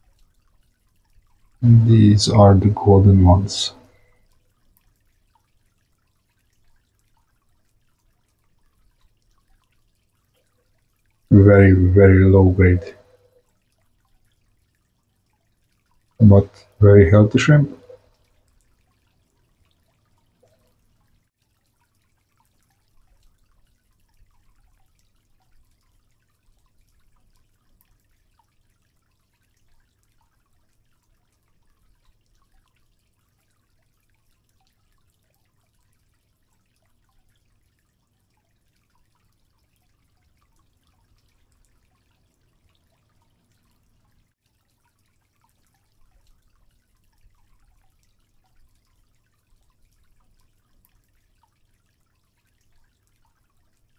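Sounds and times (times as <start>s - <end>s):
faint water drips: 0.0s - 53.9s.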